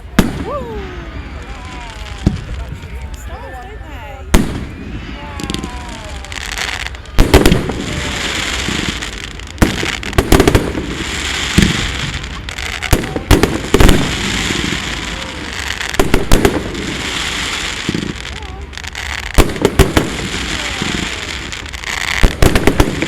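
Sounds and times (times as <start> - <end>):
fireworks bangs: 0.0 - 23.0
hissing crackle: 4.3 - 23.0.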